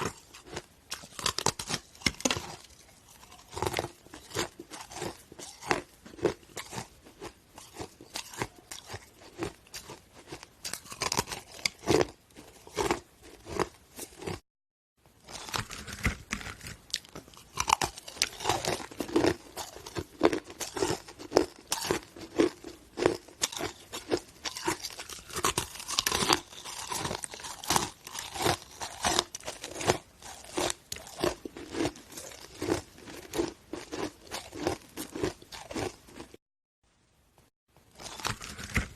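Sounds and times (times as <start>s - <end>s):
person crunching ice: 0.0s - 14.4s, 15.3s - 36.3s, 38.0s - 38.9s.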